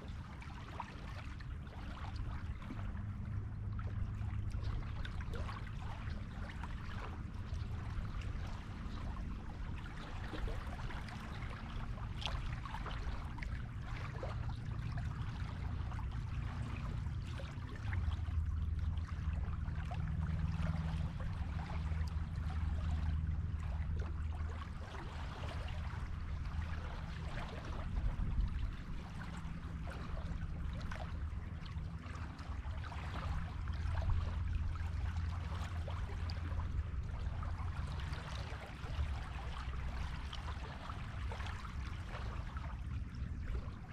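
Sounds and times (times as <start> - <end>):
low rumble: 0.0 - 43.9.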